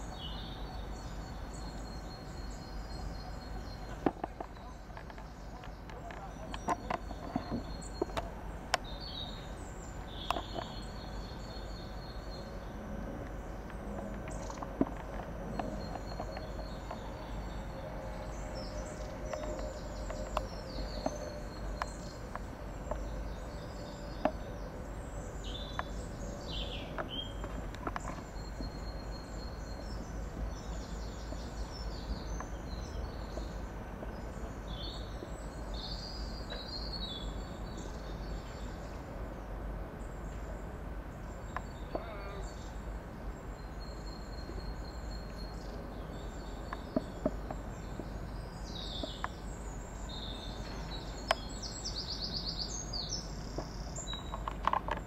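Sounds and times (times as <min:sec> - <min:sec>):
faint steady hum: 0:00.0 - 0:55.0
small birds chirping: 0:00.0 - 0:55.0.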